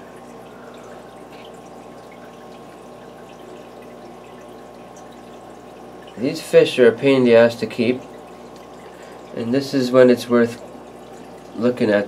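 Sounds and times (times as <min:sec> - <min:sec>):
low steady hum: 0:00.0 - 0:12.0
water trickling and splashing: 0:00.0 - 0:12.0.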